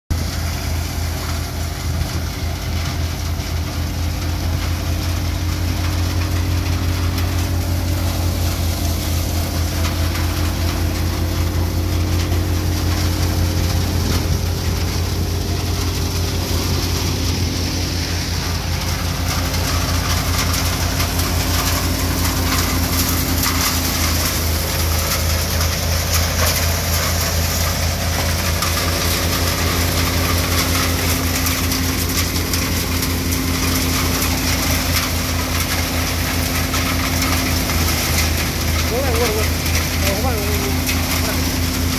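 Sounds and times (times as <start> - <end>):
threshing machine running: 0.1 - 41.9
tractor engine humming: 0.1 - 41.9.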